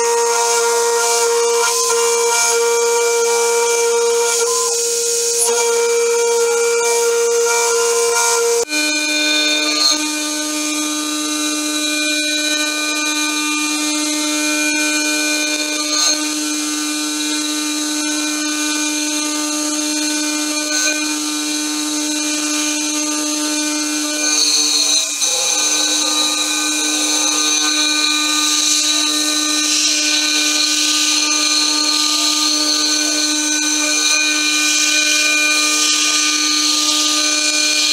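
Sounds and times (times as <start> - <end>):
mill spindle cutting metal: 0.0 - 37.9.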